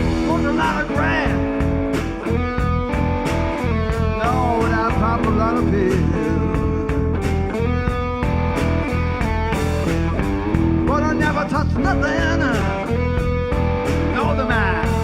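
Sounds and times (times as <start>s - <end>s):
electric guitar lead: 0.0s - 15.0s
rock band playing: 0.0s - 15.0s.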